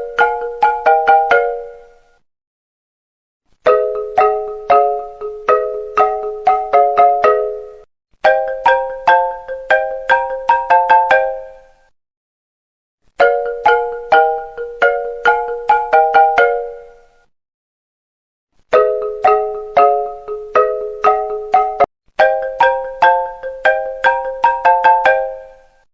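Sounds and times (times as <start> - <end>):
marimba-like phone ringtone: 0.0 - 1.9, 3.7 - 11.8, 13.2 - 17.1, 18.7 - 25.9.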